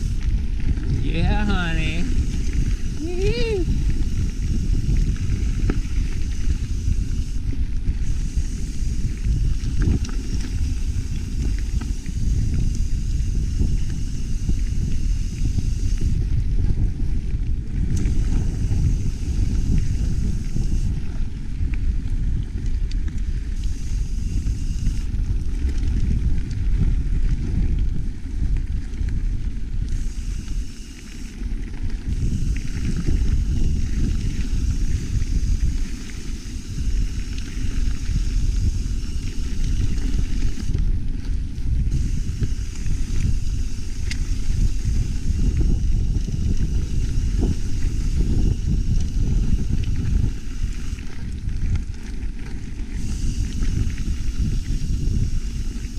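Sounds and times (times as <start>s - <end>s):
bike hiss: 0.0s - 16.5s, 17.1s - 21.5s, 23.2s - 25.4s, 29.7s - 40.9s, 41.7s - 55.9s
wind rumbling on microphone: 0.0s - 55.9s.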